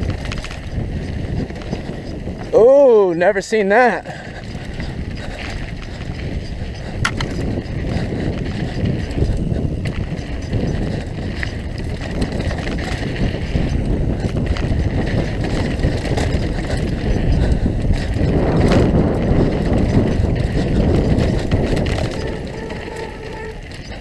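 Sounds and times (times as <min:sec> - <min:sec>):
bike rattles and clicks: 0:00.0 - 0:24.0
tyres rolling on dirt: 0:00.0 - 0:24.0
wind rushing over microphone: 0:00.0 - 0:24.0.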